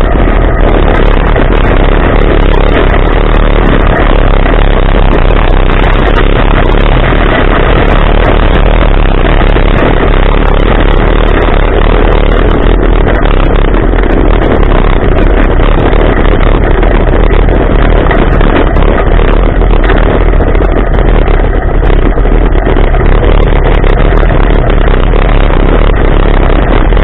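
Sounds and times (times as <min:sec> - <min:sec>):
off-road vehicle engine: 0:00.0 - 0:27.0.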